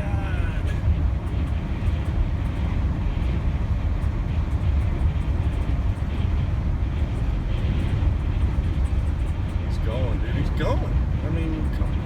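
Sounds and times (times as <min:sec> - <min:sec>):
road noise: 0:00.0 - 0:12.0
wind noise inside moving vehicle: 0:00.0 - 0:12.0.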